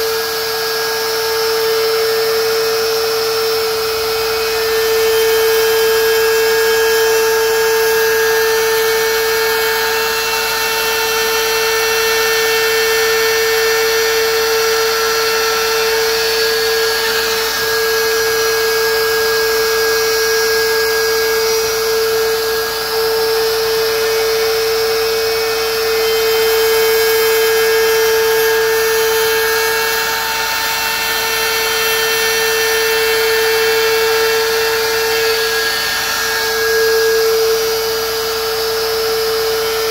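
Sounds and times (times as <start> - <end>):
router high whine: 0.0 - 39.9.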